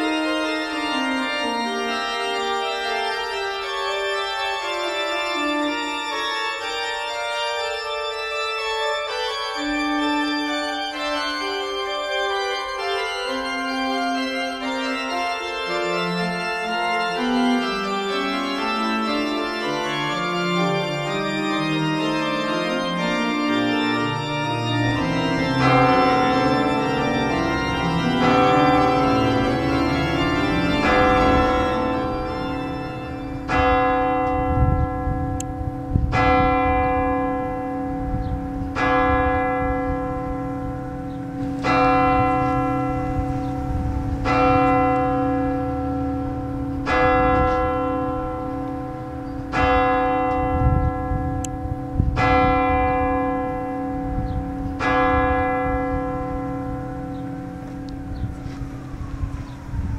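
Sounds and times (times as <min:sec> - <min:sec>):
church bell tolling: 0:00.0 - 0:59.9
organ chord: 0:00.0 - 0:59.9.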